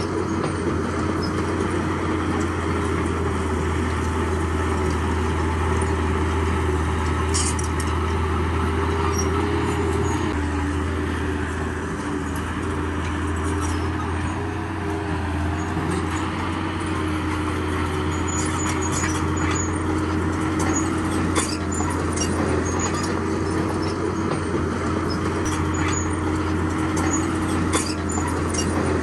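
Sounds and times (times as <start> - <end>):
diesel engine humming: 0.0 - 29.0.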